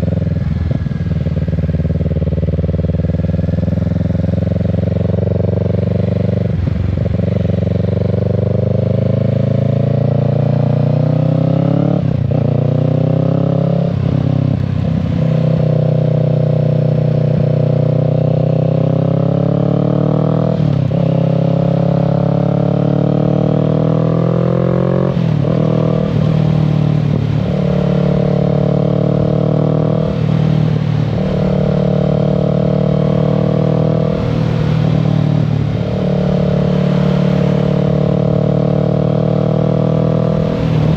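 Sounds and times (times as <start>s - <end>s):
motorcycle engine revving under throttle: 0.0s - 40.9s.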